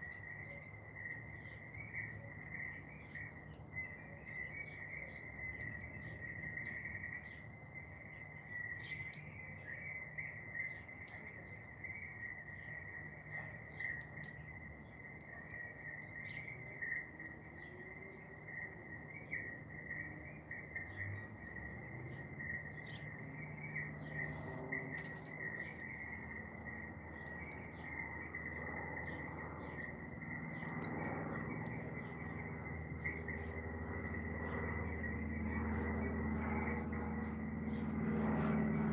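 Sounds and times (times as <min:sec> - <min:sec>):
bird chirps: 0:00.0 - 0:38.9.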